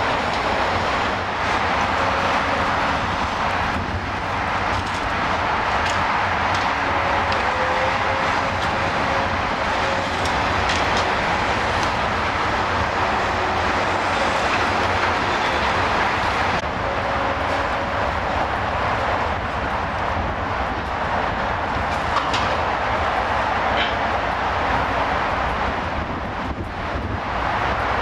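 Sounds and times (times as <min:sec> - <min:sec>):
heavy machinery roar: 0:00.0 - 0:28.0.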